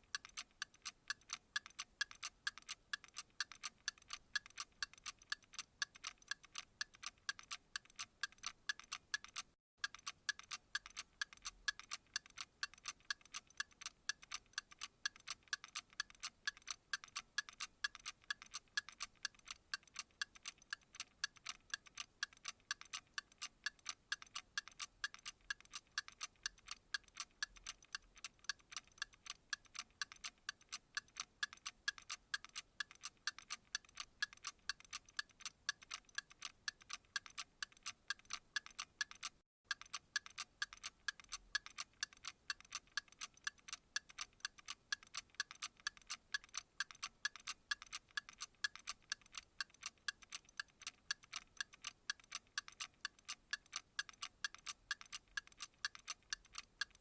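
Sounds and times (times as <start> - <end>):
clock ticking rapidly: 0.0 - 57.0.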